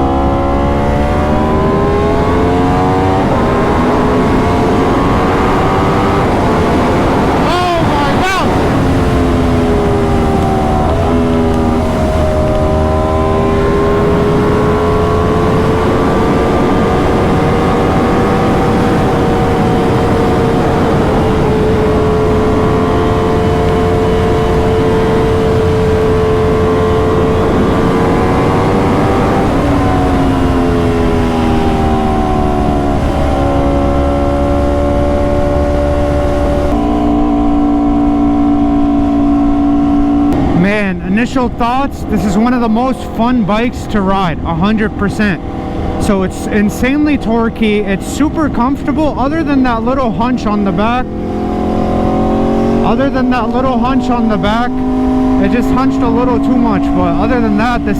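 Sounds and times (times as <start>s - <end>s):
motorcycle engine with gear changes: 0.0s - 57.9s
wind rumble: 0.0s - 57.9s.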